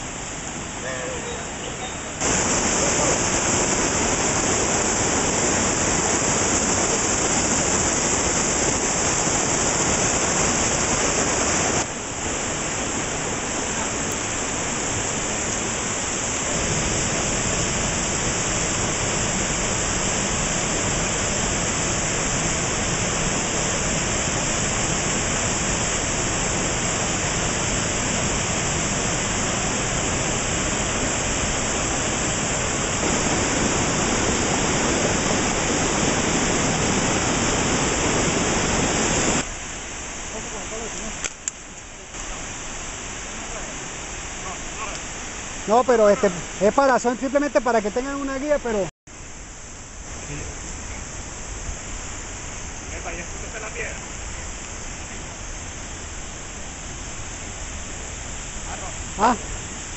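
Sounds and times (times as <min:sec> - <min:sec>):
river rushing over boulders: 0:00.0 - 0:59.9.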